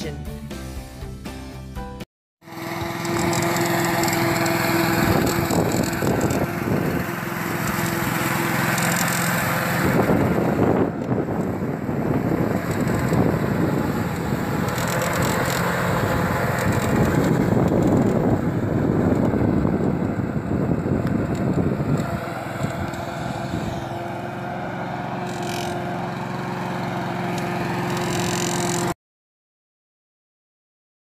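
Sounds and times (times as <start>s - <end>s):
lawn mower engine running: 2.4s - 29.0s.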